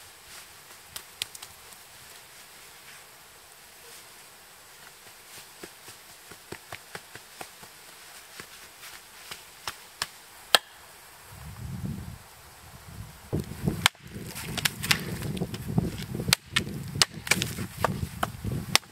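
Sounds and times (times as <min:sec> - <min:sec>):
dull rustle: 0:00.0 - 0:10.4, 0:11.0 - 0:18.9
hands scraping dirt and twigs: 0:00.0 - 0:10.7, 0:13.3 - 0:18.9.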